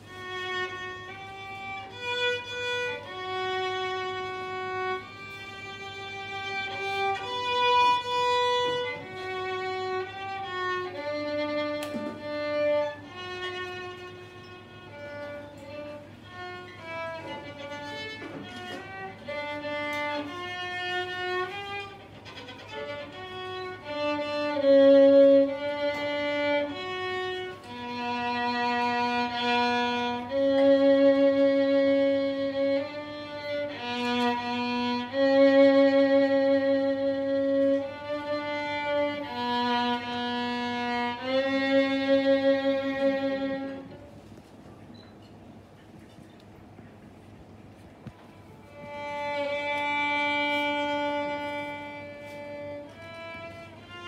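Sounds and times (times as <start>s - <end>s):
solo violin melody: 0.0s - 44.4s, 47.8s - 54.0s.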